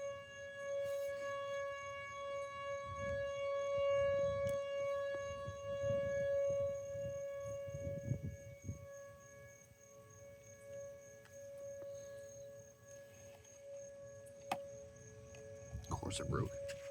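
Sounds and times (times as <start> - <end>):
warning siren steady tone: 0.0 - 16.9.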